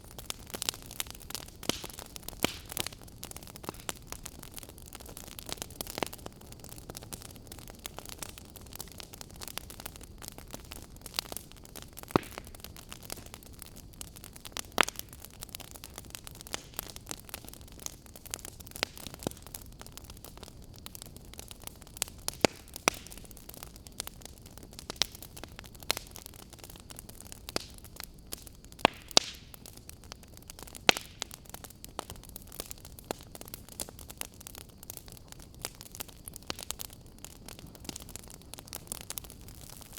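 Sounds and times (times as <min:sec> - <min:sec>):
fire hissing softly: 0:00.0 - 0:39.9
wood fire popping and snapping: 0:00.0 - 0:39.9.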